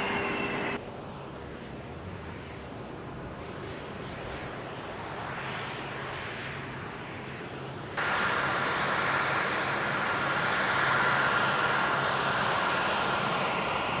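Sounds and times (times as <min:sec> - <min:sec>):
jet engines running with whine: 0:00.0 - 0:14.0.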